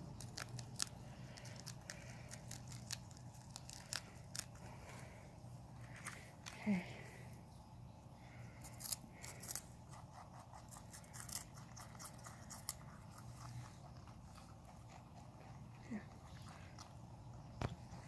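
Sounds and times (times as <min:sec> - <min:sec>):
small animals crunching vegetables: 0:00.0 - 0:07.5, 0:08.1 - 0:18.0.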